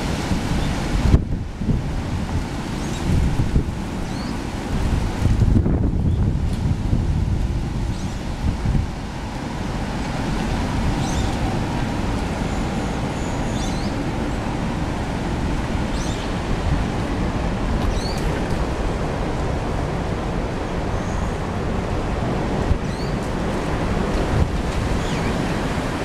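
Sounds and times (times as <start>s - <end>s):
gusty wind buffeting microphone: 0.0s - 26.0s.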